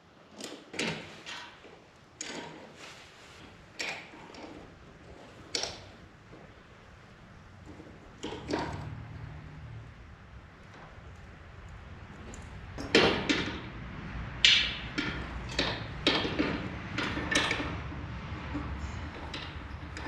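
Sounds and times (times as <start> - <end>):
metallic clanks and knocks: 0.4 - 6.5, 7.6 - 9.8, 12.1 - 20.0.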